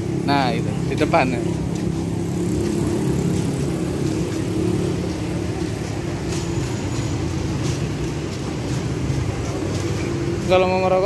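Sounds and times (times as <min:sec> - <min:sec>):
street traffic drone: 0:00.0 - 0:11.0.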